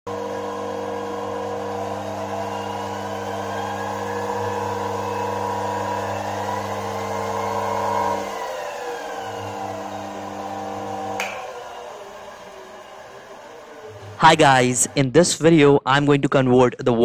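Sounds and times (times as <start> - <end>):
electric motor humming with faint whine: 0.1 - 15.0.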